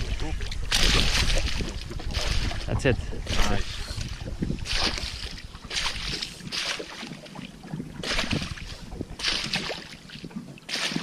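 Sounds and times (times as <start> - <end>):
water splashing against a boat: 0.0 - 11.0.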